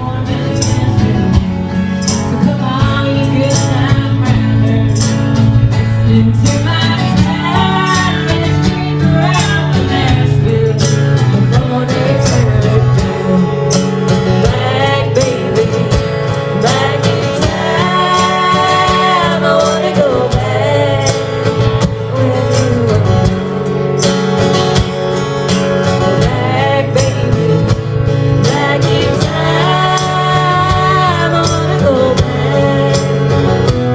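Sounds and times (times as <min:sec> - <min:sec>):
person singing: 0:00.0 - 0:24.1, 0:25.9 - 0:33.9
strummed acoustic guitar: 0:00.0 - 0:33.9.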